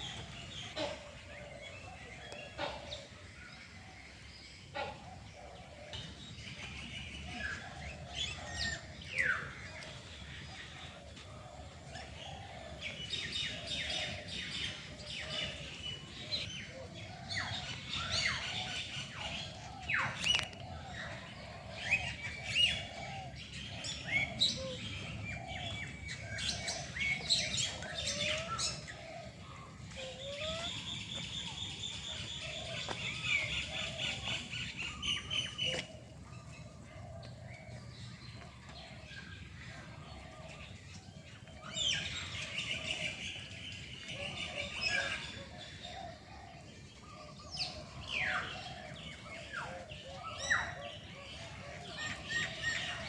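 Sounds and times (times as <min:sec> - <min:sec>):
flock of birds calling: 0:00.0 - 0:53.0.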